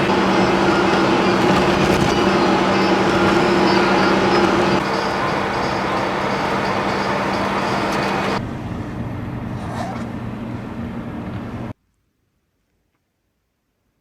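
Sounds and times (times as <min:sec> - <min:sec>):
car road and engine noise: 0:00.0 - 0:11.8.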